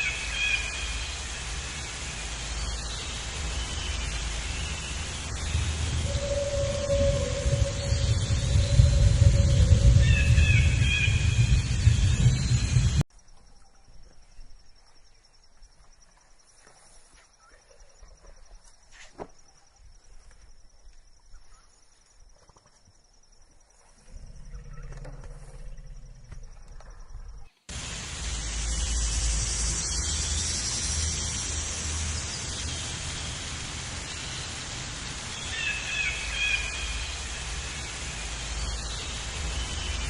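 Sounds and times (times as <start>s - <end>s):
steady outdoor noise: 0.0s - 40.0s.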